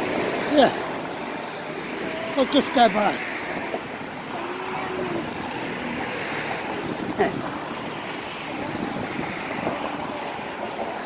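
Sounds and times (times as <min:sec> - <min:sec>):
road traffic hiss: 0:00.0 - 0:11.0.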